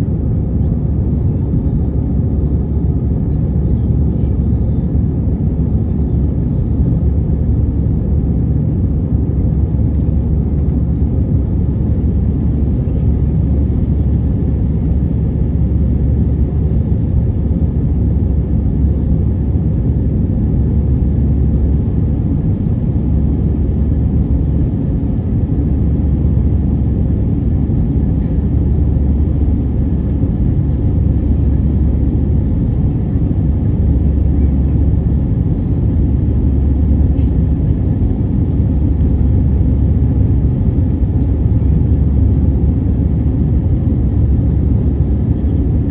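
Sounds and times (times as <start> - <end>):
aircraft cabin engine rumble: 0.0 - 45.9.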